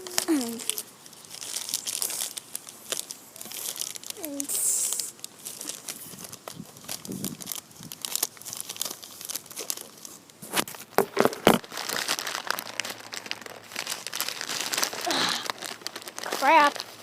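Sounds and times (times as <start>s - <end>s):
packaging crinkling and tearing: 0.0s - 17.0s
sharp packaging cracks: 0.0s - 17.0s.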